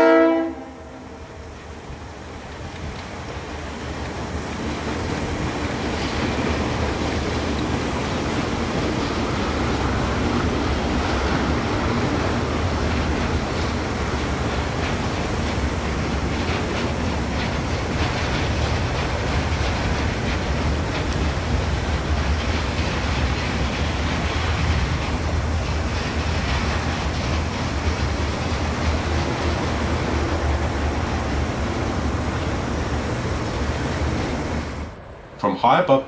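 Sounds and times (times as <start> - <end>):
deep locomotive engine drone: 0.0 - 35.5
wheels clicking over rail joints: 1.6 - 34.4.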